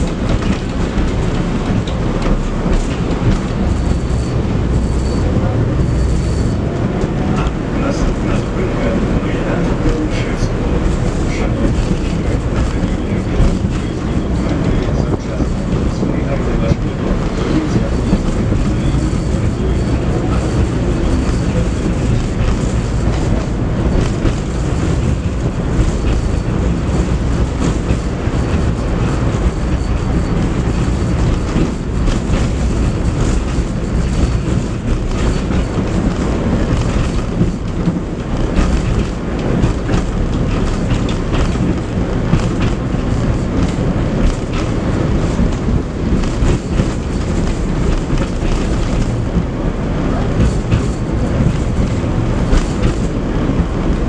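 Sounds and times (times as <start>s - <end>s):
track clicks and knocks: 0.0s - 54.0s
tram wheels rumbling on rails: 0.0s - 54.0s.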